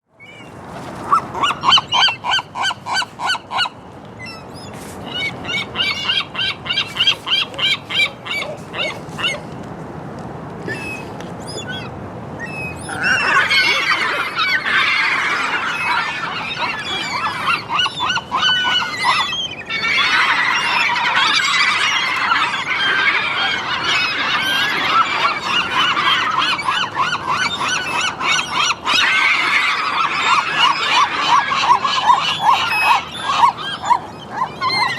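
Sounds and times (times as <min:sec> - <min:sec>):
gulls calling: 0:00.2 - 0:09.6, 0:10.6 - 0:34.9.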